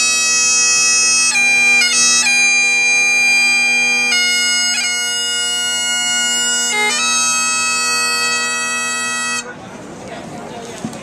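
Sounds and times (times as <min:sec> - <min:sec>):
bagpipes playing slow tune: 0:00.0 - 0:09.5.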